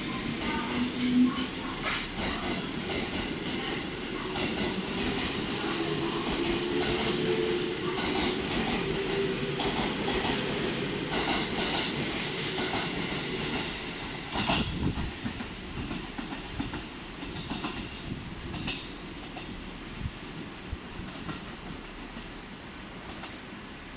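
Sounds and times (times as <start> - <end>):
electric train running past: 0.0 - 23.9.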